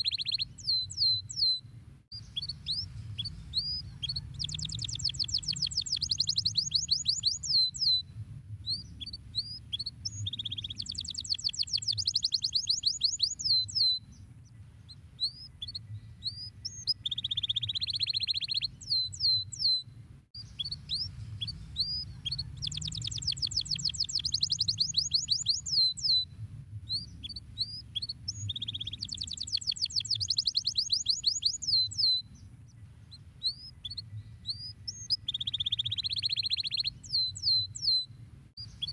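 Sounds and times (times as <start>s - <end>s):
canary singing: 0.0s - 8.0s, 8.7s - 19.8s, 20.4s - 26.3s, 26.9s - 38.9s
faint low hum: 0.0s - 38.9s.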